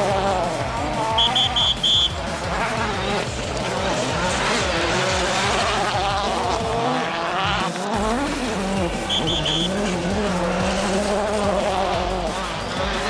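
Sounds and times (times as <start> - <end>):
rally car engines revving: 0.0 - 13.0.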